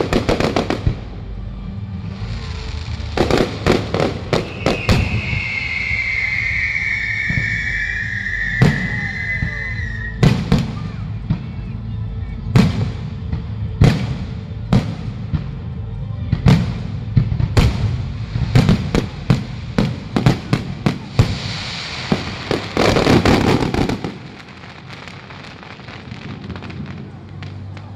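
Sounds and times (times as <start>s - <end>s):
fireworks bangs and crackling: 0.0s - 27.9s
music: 0.0s - 27.9s.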